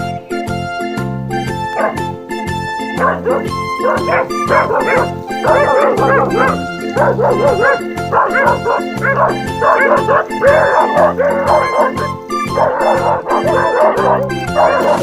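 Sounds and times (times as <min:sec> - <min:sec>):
background music with steady beat: 0:00.0 - 0:15.0
dogs yipping and whimpering: 0:01.6 - 0:02.2, 0:02.8 - 0:15.0.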